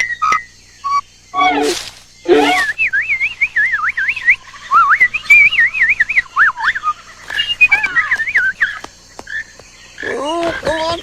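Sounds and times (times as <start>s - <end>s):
bird-like whistling: 0.0s - 8.9s.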